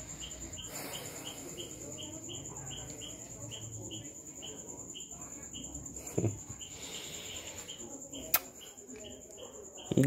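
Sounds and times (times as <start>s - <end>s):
high-pitched insect whine: 0.0s - 10.0s
insect chirping: 0.0s - 10.0s.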